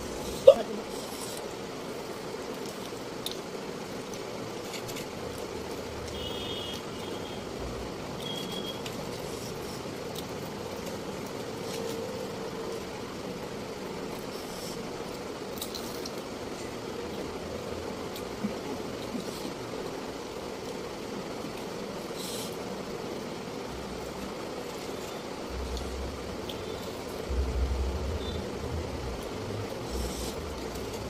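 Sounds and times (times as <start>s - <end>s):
background hum and hiss: 0.0s - 31.0s
people eating: 0.0s - 31.0s.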